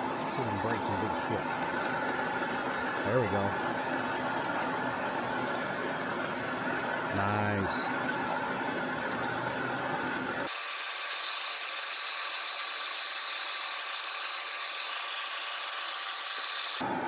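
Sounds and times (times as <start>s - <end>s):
lathe machining noise: 0.0s - 17.0s.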